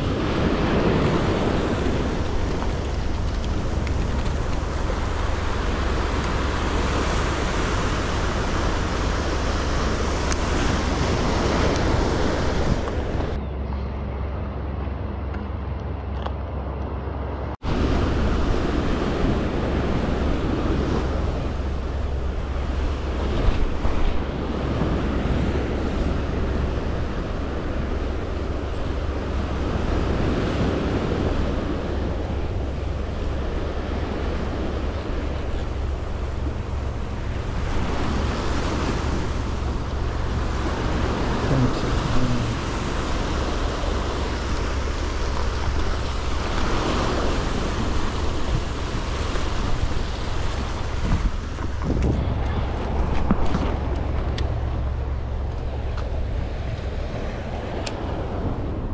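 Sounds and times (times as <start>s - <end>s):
surf washing against rocks: 0.0s - 13.4s, 17.6s - 58.9s
wind rumbling on microphone: 0.0s - 58.9s.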